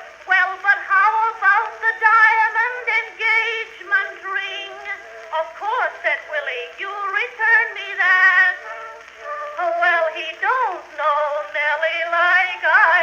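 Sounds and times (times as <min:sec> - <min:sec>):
old phonograph music recording: 0:00.0 - 0:13.0.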